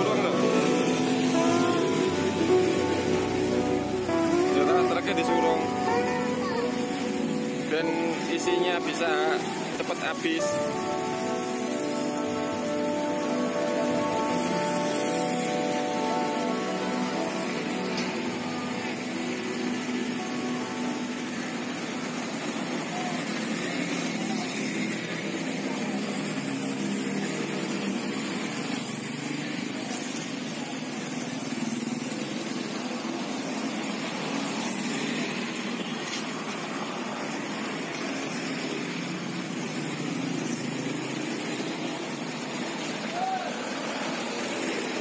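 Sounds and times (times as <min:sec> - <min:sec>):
heavy diesel machinery running: 0:00.0 - 0:45.0.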